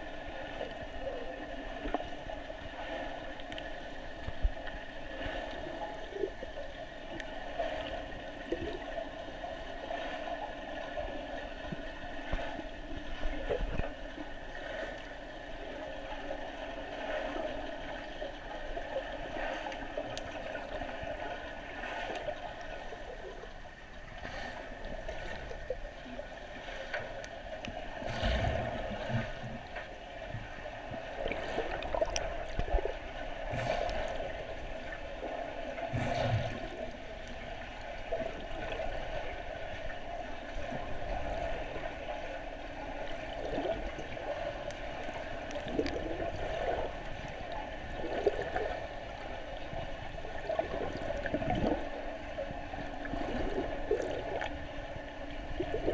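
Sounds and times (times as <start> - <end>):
underwater watery rush and gurgle: 0.0 - 55.9.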